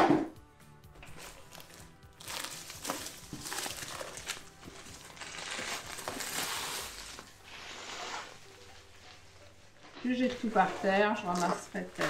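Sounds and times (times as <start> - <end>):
plastic wrapping crinkling: 1.0 - 12.0.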